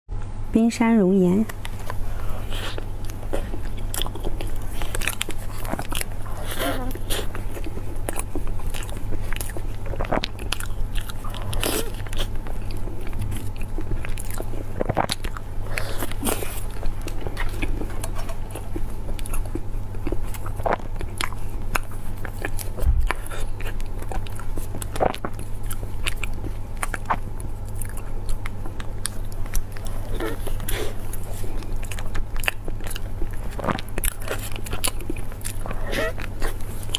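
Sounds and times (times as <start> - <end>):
steady low hum: 0.1 - 36.9
chewing: 1.5 - 36.9.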